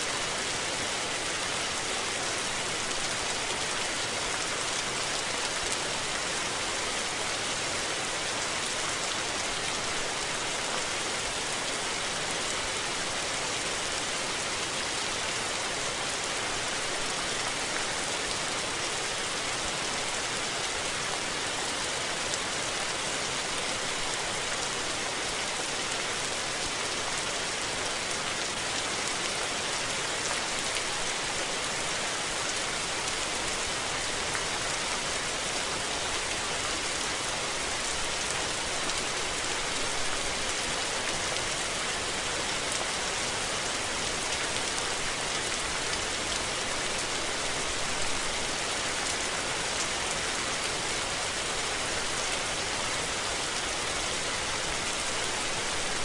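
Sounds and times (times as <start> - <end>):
rain pattering: 0.1 - 56.0.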